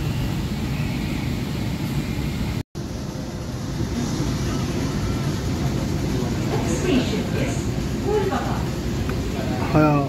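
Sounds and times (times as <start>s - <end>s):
train running rumble: 0.0s - 10.0s.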